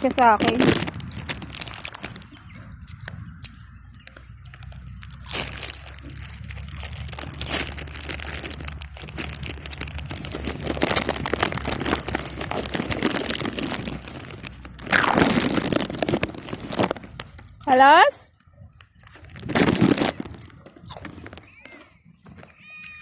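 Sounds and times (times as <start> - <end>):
foil chip bag crinkling: 0.0 - 23.0.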